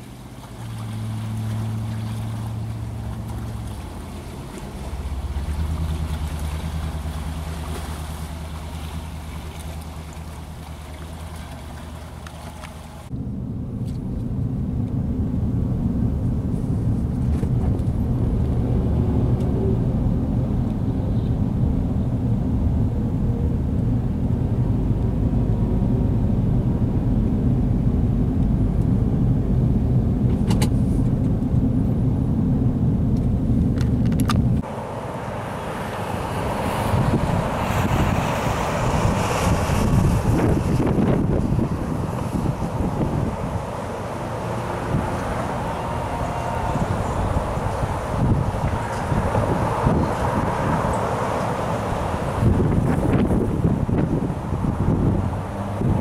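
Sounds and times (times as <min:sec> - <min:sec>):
gusting wind: 0:00.0 - 0:56.0
road traffic: 0:00.0 - 0:56.0.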